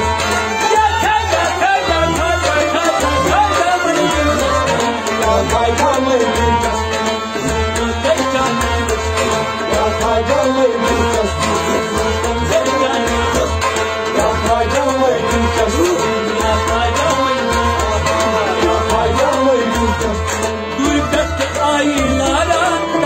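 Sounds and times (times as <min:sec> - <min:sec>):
harmonium: 0:00.0 - 0:23.0
man singing: 0:00.0 - 0:23.0.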